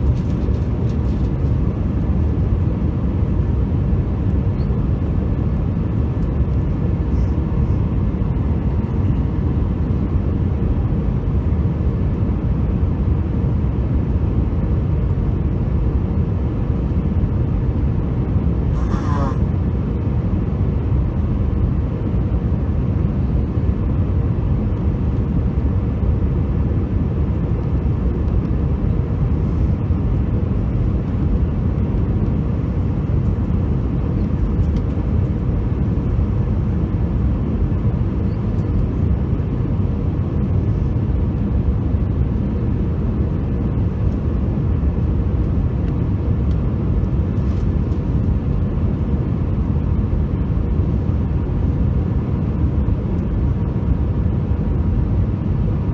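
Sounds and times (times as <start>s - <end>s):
airliner cabin engine rumble: 0.0s - 55.9s
faint steady hum: 0.0s - 55.9s.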